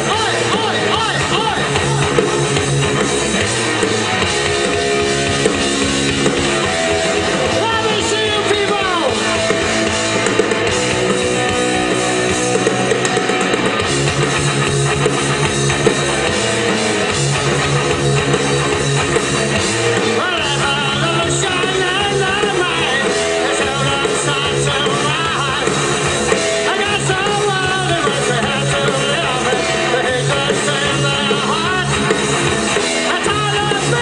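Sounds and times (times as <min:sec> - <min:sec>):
guitar slide: 0:00.0 - 0:34.0
live rock band playing: 0:00.0 - 0:34.0.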